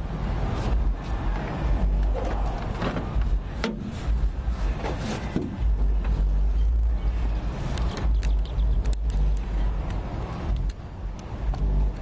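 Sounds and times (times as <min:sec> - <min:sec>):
deep rumble: 0:00.0 - 0:12.0
wind buffeting microphone: 0:00.0 - 0:12.0.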